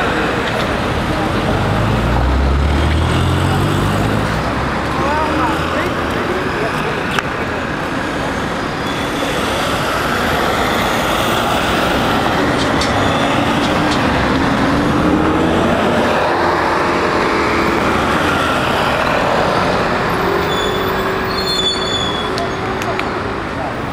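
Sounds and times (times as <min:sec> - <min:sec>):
bus driving past: 0:00.0 - 0:23.9
cars and tyres noise: 0:00.0 - 0:23.9.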